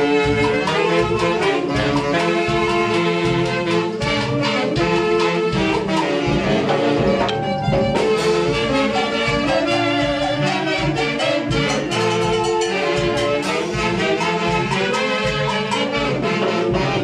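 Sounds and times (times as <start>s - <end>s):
latin dance music with brass: 0.0s - 17.0s.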